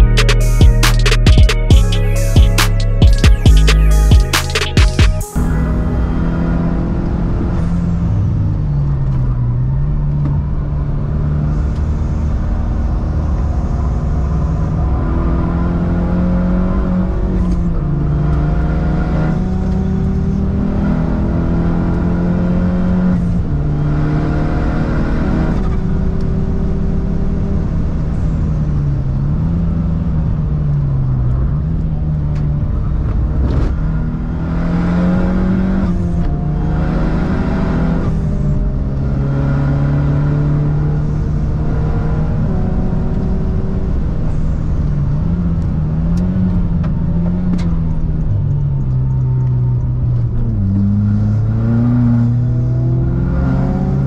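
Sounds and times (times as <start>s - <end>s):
car engine accelerating hard: 5.4s - 54.0s.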